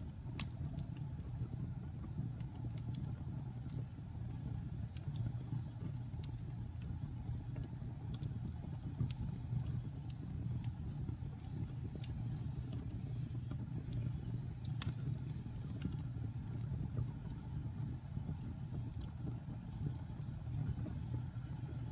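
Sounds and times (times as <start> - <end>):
fire pops and snaps: 0.0 - 21.9
low rumble of burning: 0.0 - 21.9
wood fire crackling: 0.0 - 21.9.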